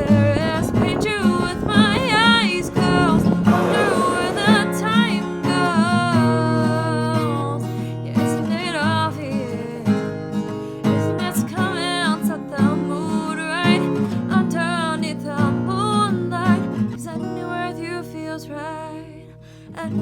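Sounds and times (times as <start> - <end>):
woman singing slow melody: 0.0 - 10.2, 10.9 - 20.0
acoustic guitar strumming: 0.0 - 20.0.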